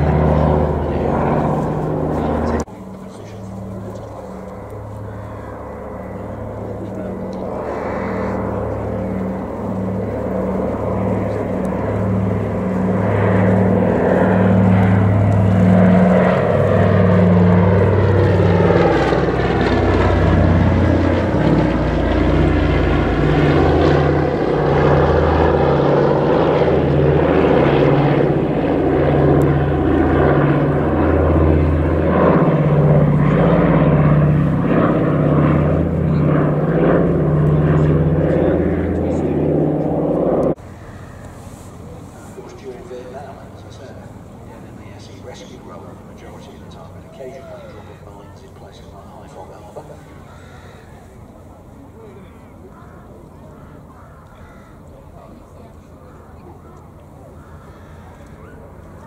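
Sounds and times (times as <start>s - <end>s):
propeller plane flying past: 0.0s - 59.0s.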